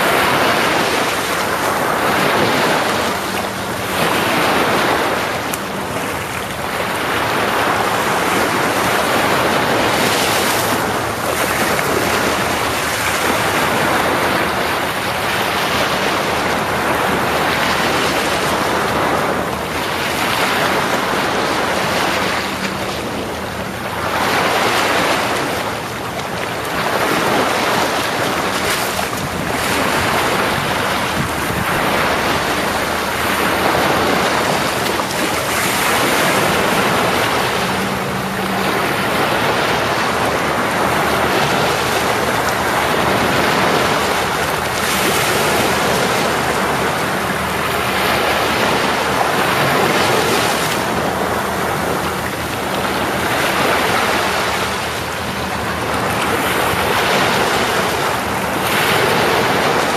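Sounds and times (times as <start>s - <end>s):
ocean waves breaking: 0.0s - 59.9s
wind buffeting microphone: 0.0s - 59.9s.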